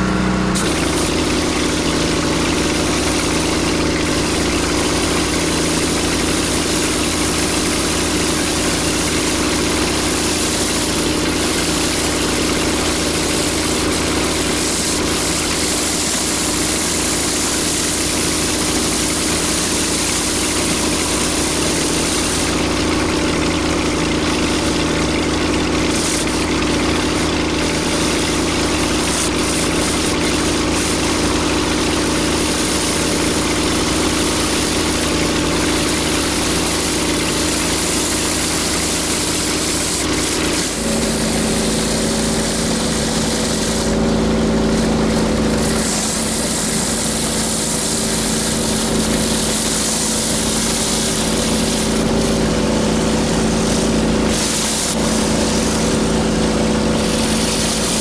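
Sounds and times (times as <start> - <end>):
pressure washer engine drone: 0.0 - 58.0
hiss of water spray: 0.5 - 58.0.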